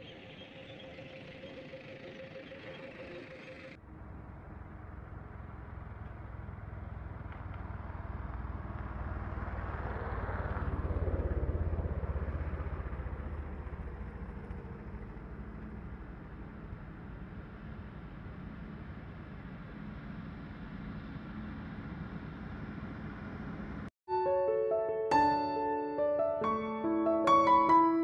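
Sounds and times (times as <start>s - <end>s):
vehicle engine rumble passing: 0.0s - 23.9s.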